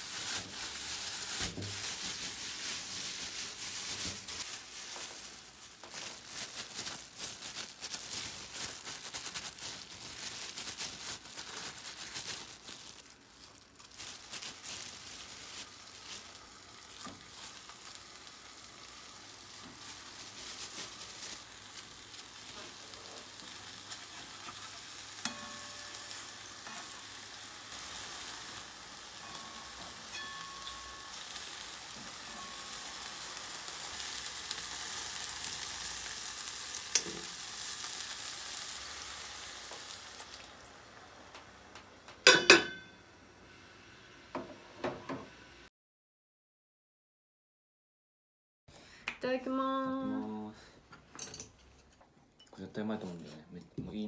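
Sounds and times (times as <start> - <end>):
food frying in hot oil: 0.0 - 45.2.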